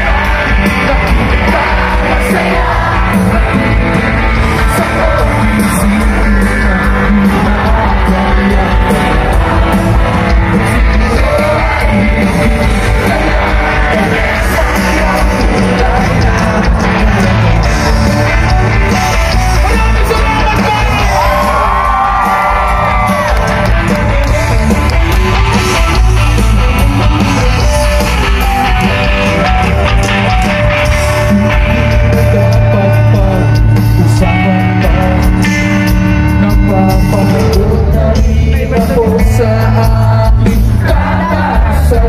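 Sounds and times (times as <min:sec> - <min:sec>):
crowd yelling: 0:00.0 - 0:42.0
drums: 0:00.0 - 0:42.0
electric guitar: 0:00.0 - 0:42.0
person singing: 0:00.0 - 0:42.0
rock band playing live: 0:00.0 - 0:42.0.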